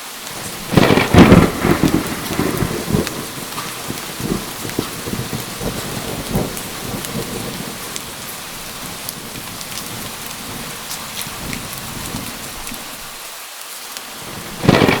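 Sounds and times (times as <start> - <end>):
steady rain: 0.0 - 15.0
rolling thunder: 0.3 - 13.2, 14.2 - 15.0.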